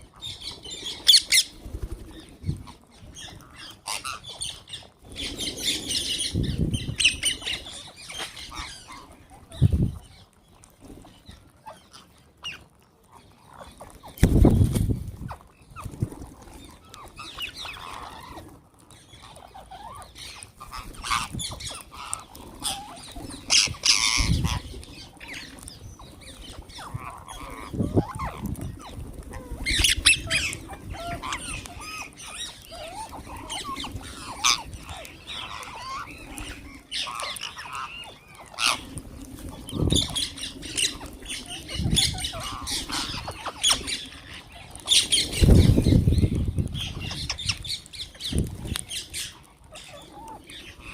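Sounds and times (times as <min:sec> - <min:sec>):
parrots squawking and chattering: 0:00.0 - 0:50.9.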